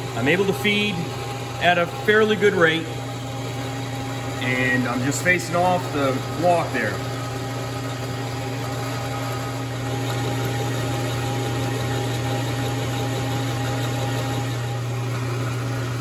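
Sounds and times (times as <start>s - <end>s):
metal lathe milling hum: 0.0s - 16.0s.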